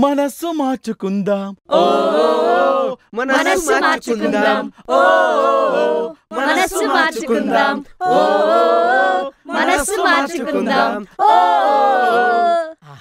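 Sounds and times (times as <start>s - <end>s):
voices singing without instruments: 1.7s - 12.8s.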